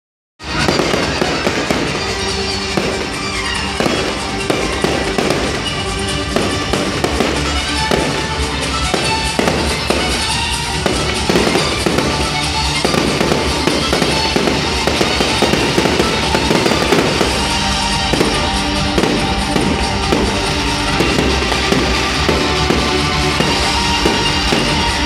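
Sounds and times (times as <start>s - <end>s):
firework shell bursts crackling: 0.4s - 25.0s
music: 0.4s - 25.0s.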